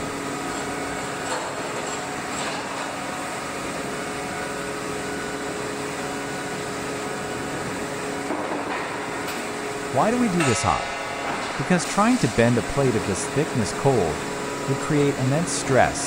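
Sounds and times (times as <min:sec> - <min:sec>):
hydraulic press humming: 0:00.0 - 0:16.0.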